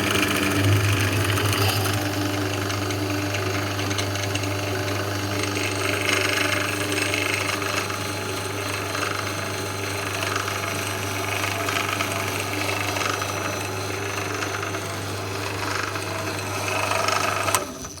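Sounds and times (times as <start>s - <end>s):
drill press motor hum: 0.0s - 18.0s.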